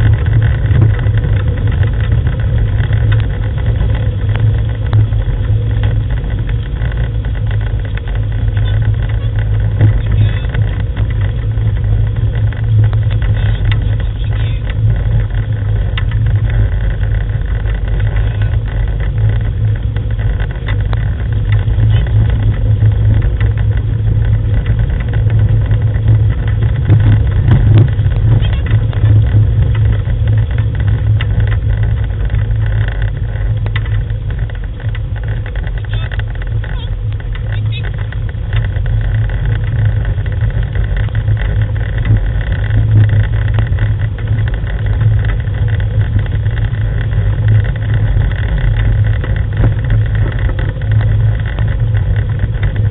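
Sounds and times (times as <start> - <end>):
small rattles and clicks: 0.0 - 52.9
wheels rolling over gravel: 0.0 - 52.9.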